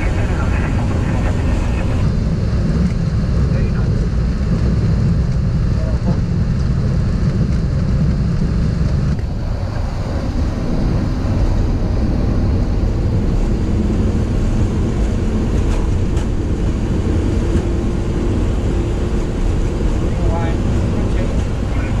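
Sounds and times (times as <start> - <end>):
jet engines at takeoff thrust: 0.0 - 22.0
wheels rumbling on runway: 0.0 - 22.0.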